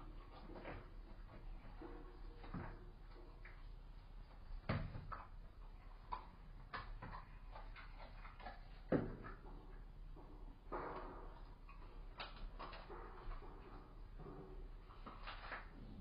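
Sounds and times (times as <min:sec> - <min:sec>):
low mains hum: 0:00.0 - 0:16.0.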